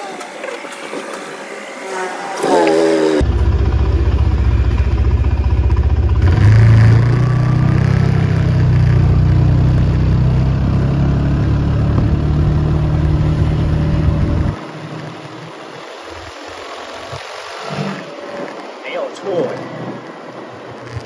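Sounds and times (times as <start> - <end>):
scooter engine revving: 1.4 - 18.6.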